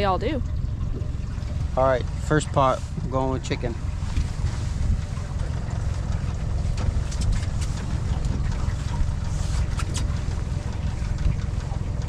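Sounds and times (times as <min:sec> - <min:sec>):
low boat rumble: 0:00.0 - 0:12.0.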